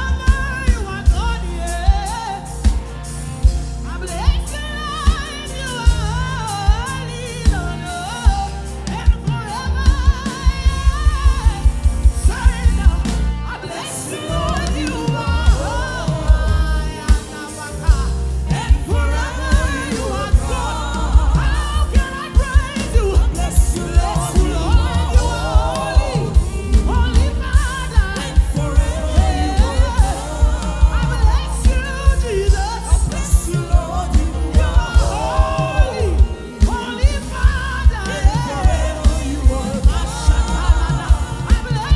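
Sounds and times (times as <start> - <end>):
full band playing: 0.0 - 41.9
gospel singing: 0.0 - 41.9
steady drum beat: 0.0 - 41.9.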